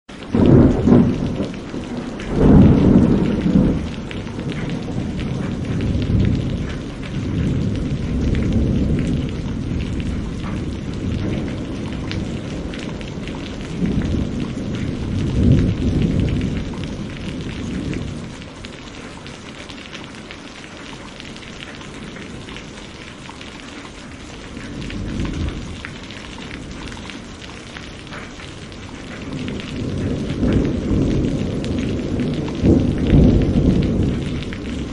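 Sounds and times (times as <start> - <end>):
rolling thunder: 0.2 - 18.9, 24.3 - 34.9
rain hiss: 0.2 - 34.9.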